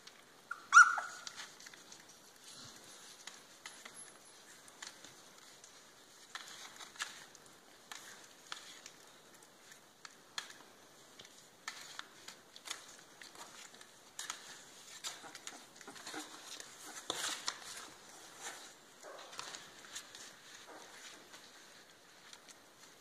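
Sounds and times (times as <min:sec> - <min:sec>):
paper rustling: 0:00.0 - 0:23.0
puppies scratching and tapping: 0:00.0 - 0:23.0.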